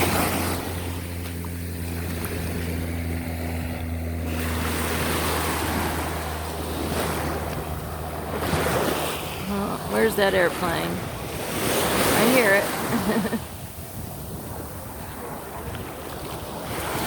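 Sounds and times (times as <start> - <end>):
airplane engine drone: 0.0 - 17.0
surf washing on beach: 0.0 - 17.0.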